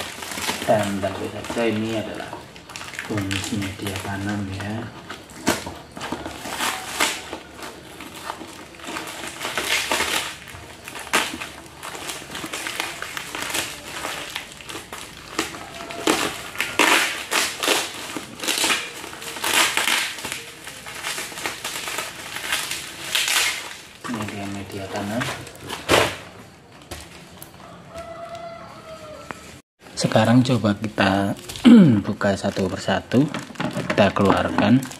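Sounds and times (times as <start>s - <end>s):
plastic packaging crinkling: 0.0s - 34.9s.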